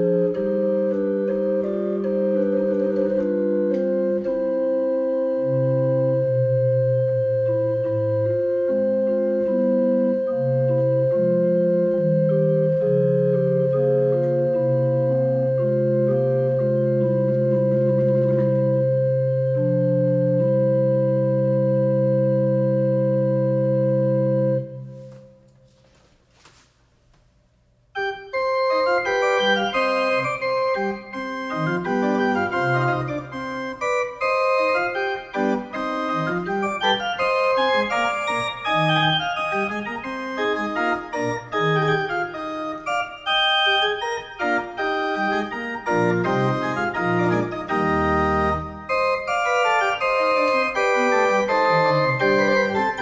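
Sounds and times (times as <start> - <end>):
pipe organ playing: 0.0 - 25.8, 28.0 - 53.0.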